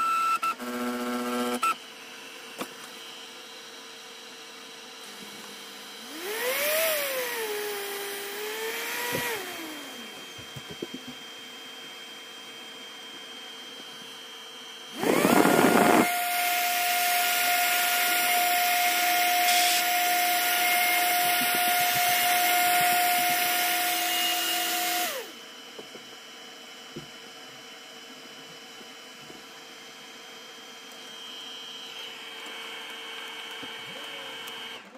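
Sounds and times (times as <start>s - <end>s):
router spindle motor whining: 0.1s - 34.9s.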